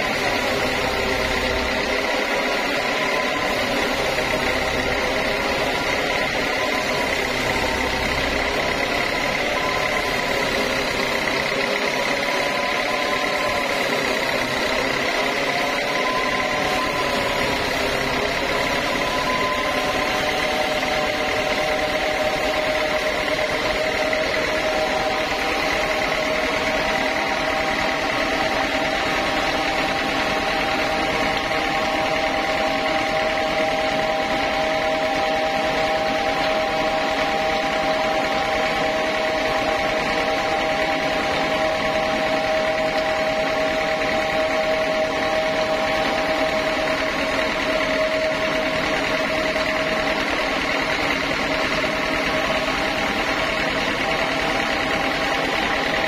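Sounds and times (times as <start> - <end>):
band sawmill whining: 0.0 - 56.0.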